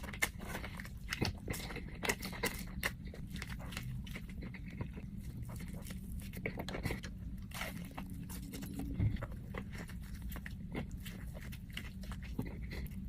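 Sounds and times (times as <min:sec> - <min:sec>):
chewing with mouth clicks and crunches: 0:00.0 - 0:13.0
steady low hum: 0:00.0 - 0:13.0.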